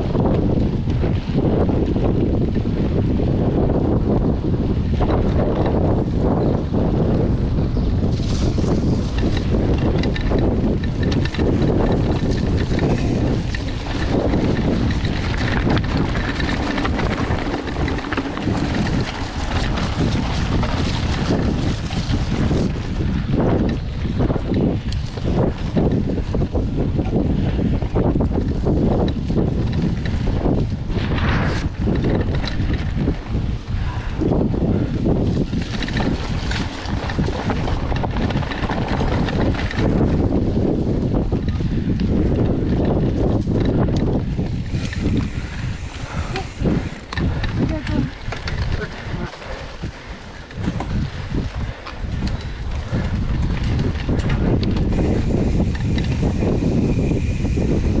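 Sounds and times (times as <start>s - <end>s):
bike rattles and knocks: 0.0s - 58.0s
wind buffeting microphone: 0.0s - 58.0s.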